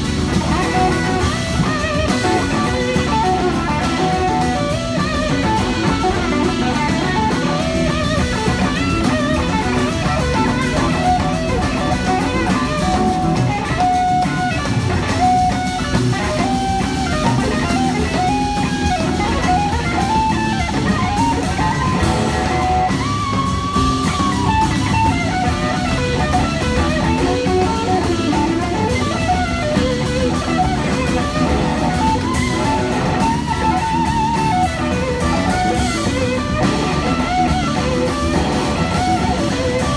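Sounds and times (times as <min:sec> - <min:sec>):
drum kit: 0:00.0 - 0:39.9
electric guitar lead line: 0:00.0 - 0:39.9
live rock band playing: 0:00.0 - 0:39.9.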